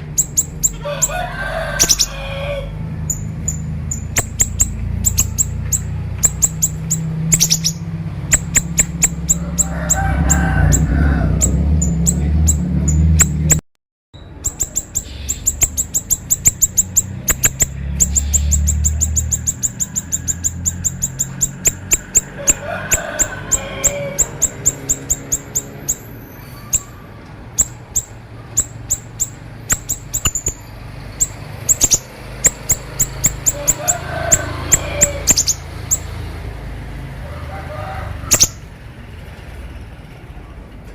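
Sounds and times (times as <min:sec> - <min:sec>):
songbird rapid high ticking song: 0:00.0 - 0:01.1, 0:01.8 - 0:02.2, 0:03.0 - 0:13.6, 0:14.2 - 0:26.1, 0:27.5 - 0:36.3, 0:38.3 - 0:38.6.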